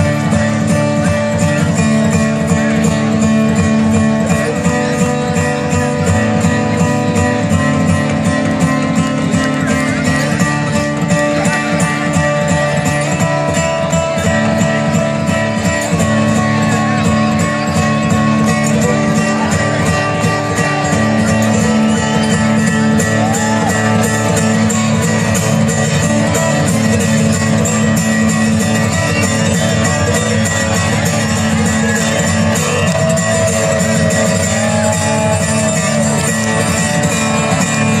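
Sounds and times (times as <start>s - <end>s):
bluegrass band playing: 0.0s - 38.0s.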